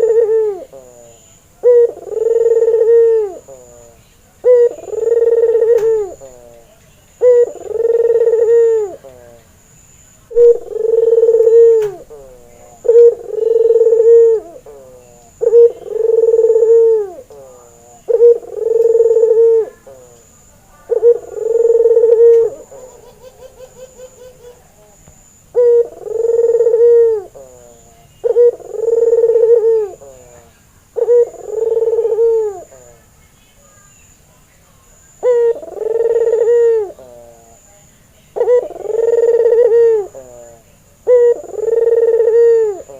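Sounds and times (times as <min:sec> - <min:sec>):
dove cooing: 0:00.0 - 0:09.4, 0:10.0 - 0:33.1, 0:35.1 - 0:42.9.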